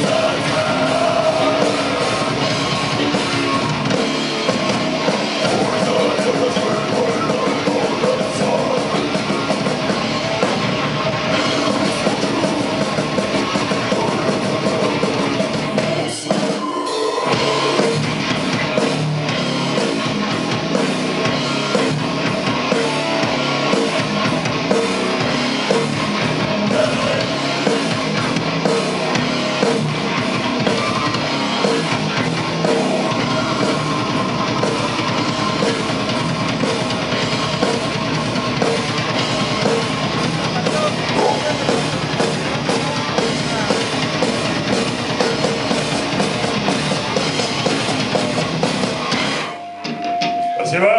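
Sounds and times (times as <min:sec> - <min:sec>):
drum kit: 0:00.0 - 0:50.9
electric guitars: 0:00.0 - 0:50.9
rock band playing live: 0:00.0 - 0:50.9.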